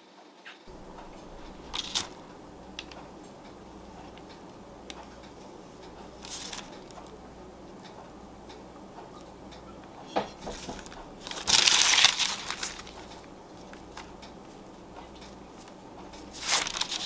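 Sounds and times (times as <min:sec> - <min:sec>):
low room hum: 0:00.7 - 0:17.0.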